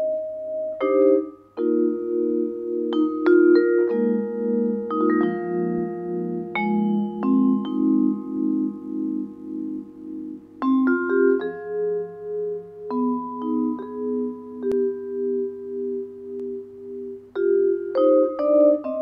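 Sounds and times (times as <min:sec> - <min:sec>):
vibraphone jazz ballad: 0:00.0 - 0:19.0.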